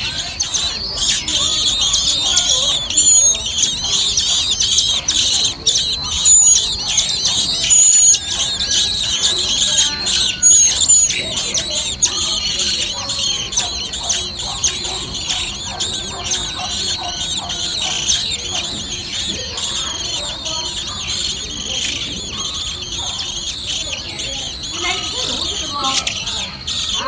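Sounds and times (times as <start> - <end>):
nestlings begging calls: 0.0 - 27.0.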